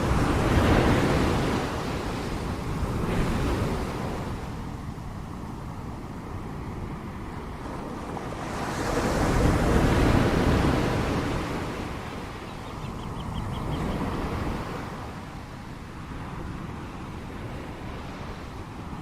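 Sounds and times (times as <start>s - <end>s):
ocean waves crashing: 0.0s - 19.0s.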